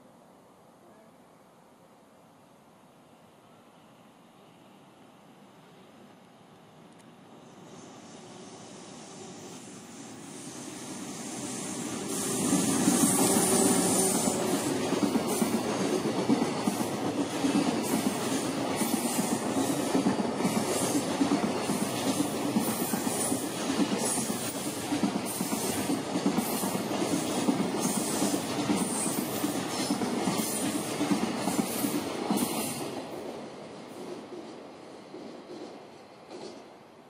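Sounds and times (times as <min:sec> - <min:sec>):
freight train rumbling past: 0:03.7 - 0:37.0.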